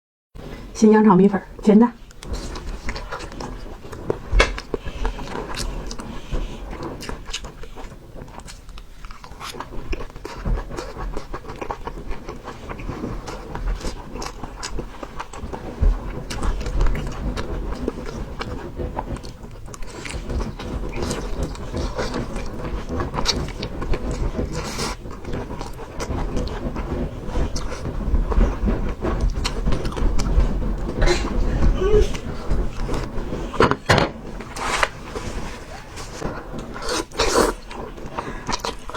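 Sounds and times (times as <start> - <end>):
person chewing noodles: 2.1 - 33.8, 34.4 - 38.9.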